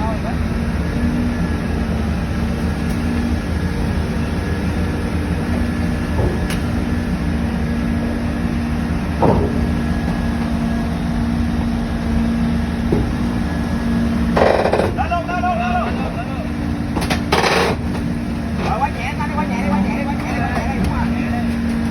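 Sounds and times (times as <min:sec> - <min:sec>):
heavy machinery engine rumbling: 0:00.0 - 0:21.9.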